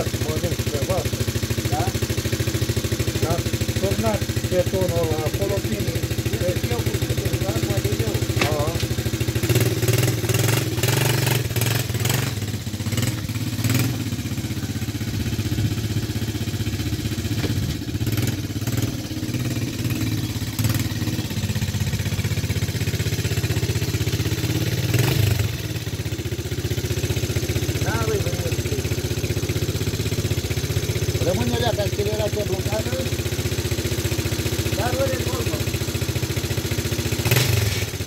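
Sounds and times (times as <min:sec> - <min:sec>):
quad bike engine: 0:00.0 - 0:38.0.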